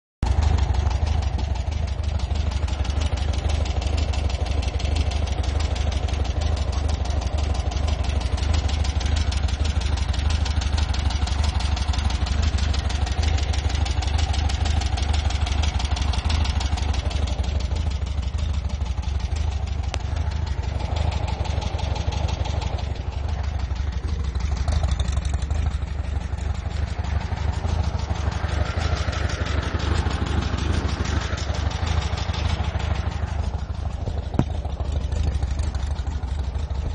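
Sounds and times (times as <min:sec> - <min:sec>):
car engine idling with knocking: 0:00.2 - 0:36.9.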